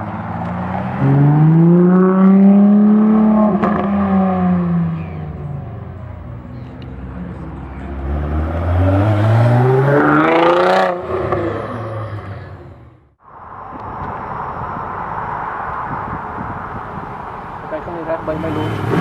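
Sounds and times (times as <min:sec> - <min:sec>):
car engine accelerating hard: 0:00.0 - 0:05.8, 0:06.6 - 0:13.1, 0:15.8 - 0:19.0.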